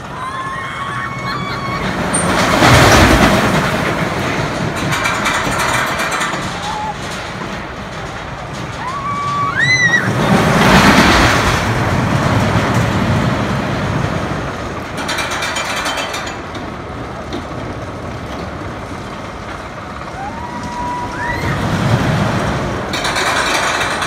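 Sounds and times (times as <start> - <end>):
roller coaster rumbling past: 0.0 - 24.0
rapid mechanical clicking: 2.1 - 20.2, 21.8 - 24.0.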